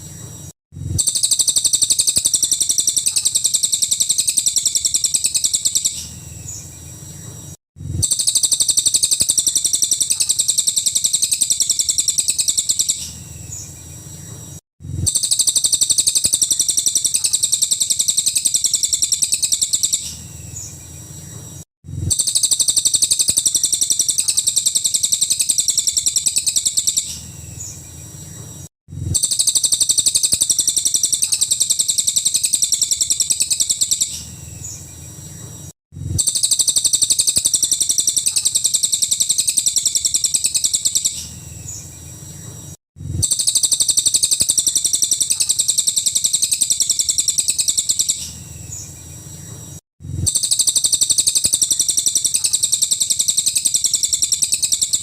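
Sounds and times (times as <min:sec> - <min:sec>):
songbird trilling: 0:01.0 - 0:07.3, 0:08.0 - 0:14.3, 0:15.0 - 0:20.8, 0:22.1 - 0:27.9, 0:29.2 - 0:34.9, 0:36.2 - 0:42.0, 0:43.2 - 0:49.1, 0:50.3 - 0:55.0.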